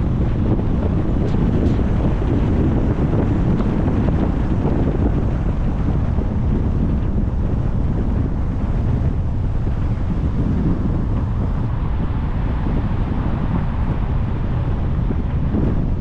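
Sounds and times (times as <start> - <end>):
car road noise: 0.0 - 16.0
wind buffeting microphone: 0.0 - 16.0.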